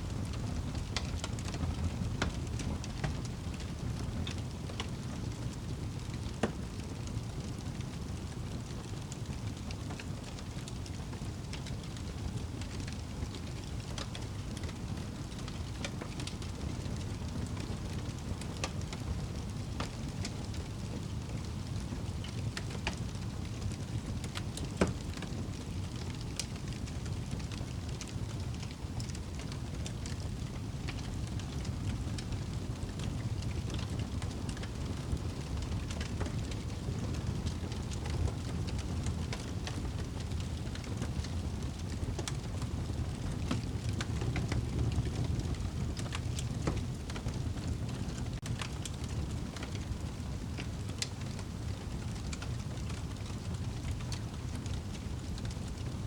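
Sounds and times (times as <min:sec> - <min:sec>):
low rumble of flames: 0:00.0 - 0:56.0
wood fire crackling and popping: 0:00.1 - 0:56.0.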